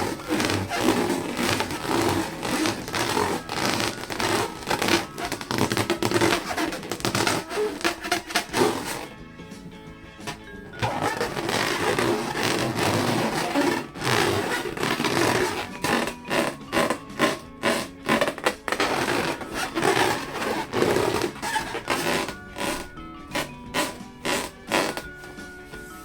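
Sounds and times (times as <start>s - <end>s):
balloons being rubbed: 0.0s - 9.2s, 10.2s - 25.2s.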